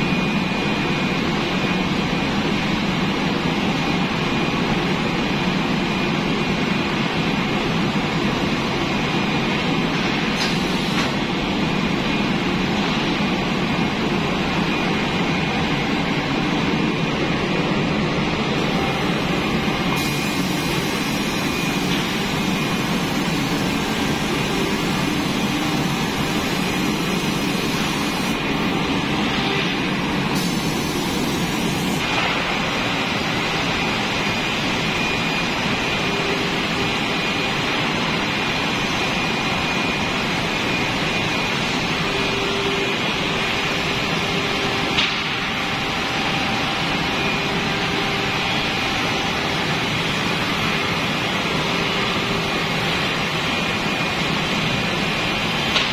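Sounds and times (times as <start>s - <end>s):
rushing machine noise: 0.0s - 55.9s.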